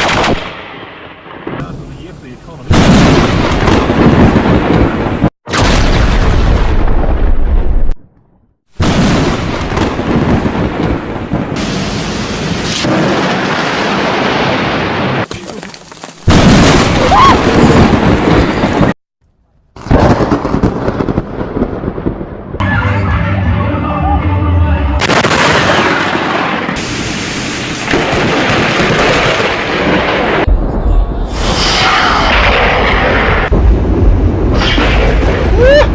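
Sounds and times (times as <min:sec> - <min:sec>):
thunder rumbling: 0:00.2 - 0:08.0, 0:08.8 - 0:15.3, 0:16.3 - 0:19.0, 0:19.8 - 0:35.9.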